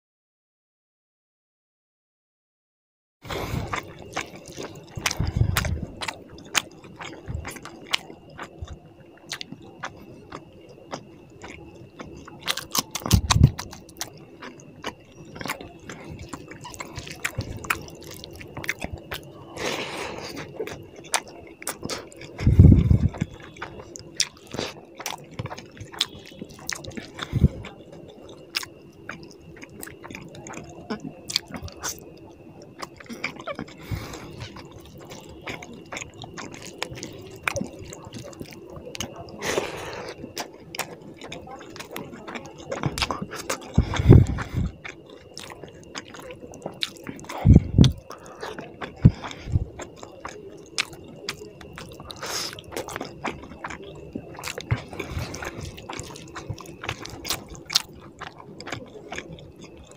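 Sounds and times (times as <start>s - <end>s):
wet chewing and mouth clicks: 3.3s - 59.9s.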